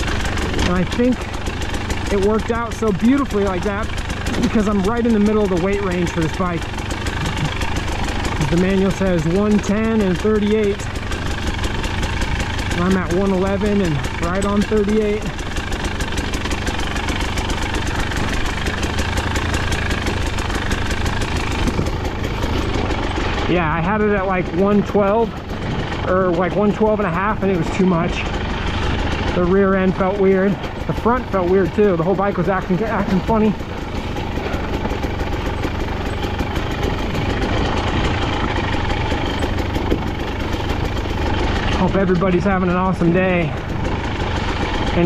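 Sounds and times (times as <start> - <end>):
dirt bike engine running: 0.0 - 45.0.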